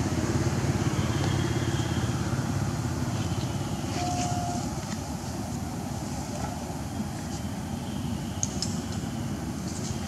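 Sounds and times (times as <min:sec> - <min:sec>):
vehicle engine idling: 0:00.0 - 0:09.9.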